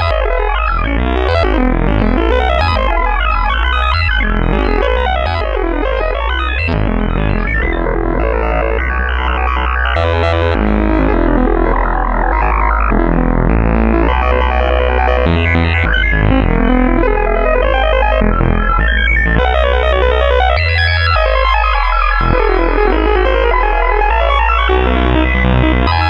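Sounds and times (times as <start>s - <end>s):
electronic tone cluster: 0.0s - 26.0s
low synthesizer note: 0.0s - 26.0s.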